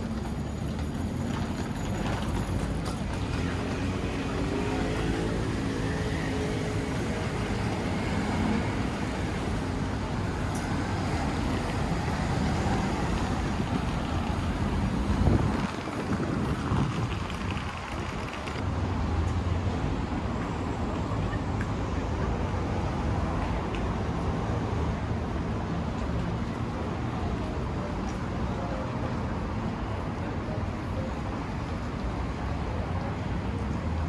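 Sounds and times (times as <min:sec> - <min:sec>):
road traffic hum: 0:00.0 - 0:34.0.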